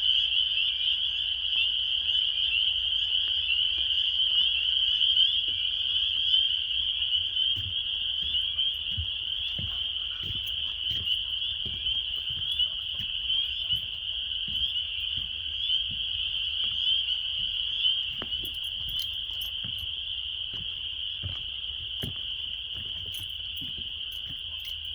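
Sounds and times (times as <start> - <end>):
frogs trilling chorus: 0.0 - 24.9.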